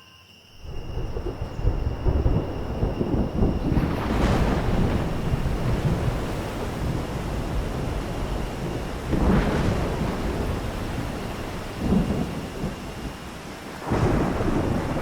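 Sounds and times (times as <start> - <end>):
low rolling thunder: 0.6 - 15.0
steady rain: 0.6 - 15.0.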